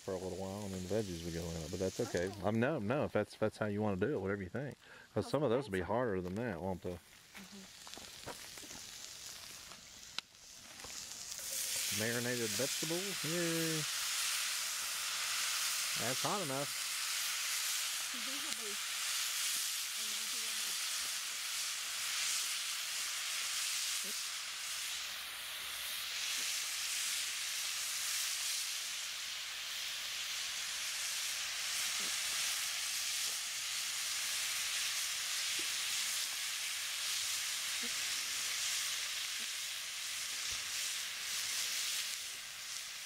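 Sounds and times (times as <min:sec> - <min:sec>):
food sizzling in skillet: 0:00.0 - 0:43.0.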